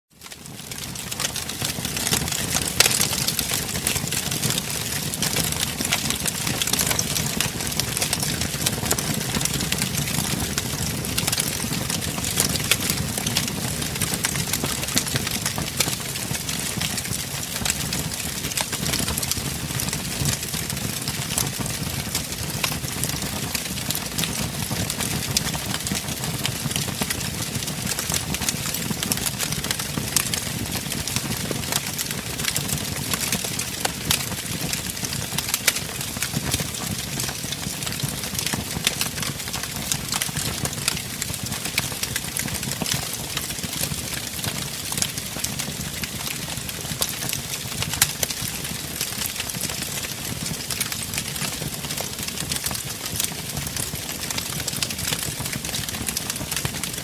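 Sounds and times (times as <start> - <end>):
fire popping and snapping: 0.2 - 57.0
low rumble of burning flames: 0.2 - 57.0.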